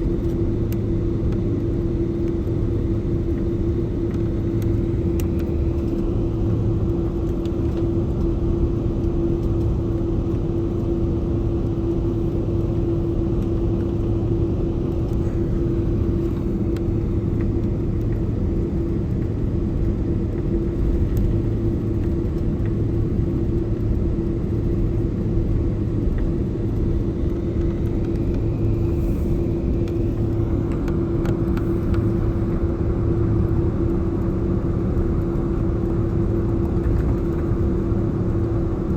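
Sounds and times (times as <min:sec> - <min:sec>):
jet airliner cabin rumble: 0:00.0 - 0:38.9.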